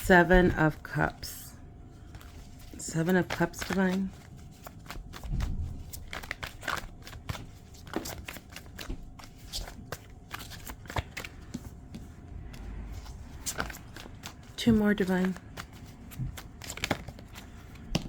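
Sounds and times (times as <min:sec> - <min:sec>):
cards being shuffled: 0:02.0 - 0:18.0.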